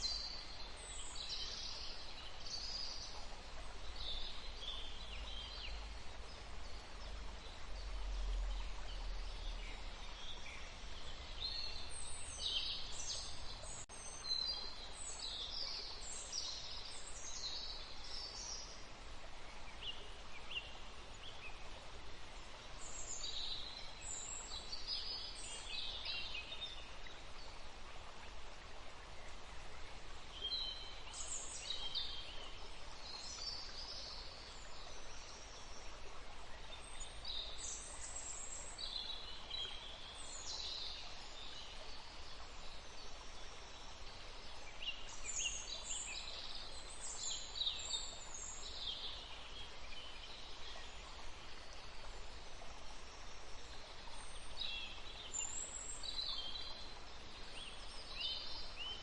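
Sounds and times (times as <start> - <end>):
songbirds chirping: 0.0 - 59.0
wind in leaves: 0.0 - 59.0.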